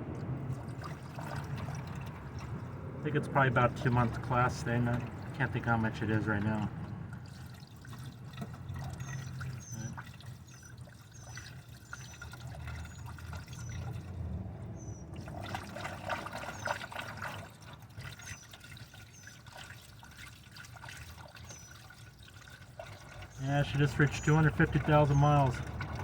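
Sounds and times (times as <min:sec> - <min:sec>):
coolant pouring and trickling: 0:00.0 - 0:26.0.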